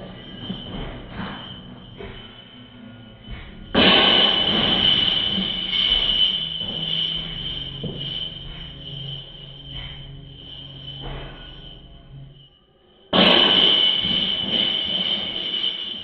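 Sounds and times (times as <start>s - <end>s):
steady high whine: 0.0s - 16.0s.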